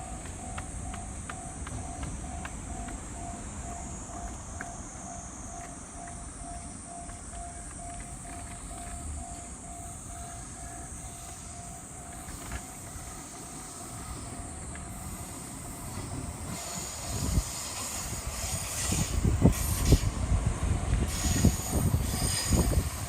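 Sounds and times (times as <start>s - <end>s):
level-crossing warning bell: 0.0s - 23.0s
train approaching: 0.0s - 23.0s
train wheels knocking on rail joints: 0.0s - 23.0s.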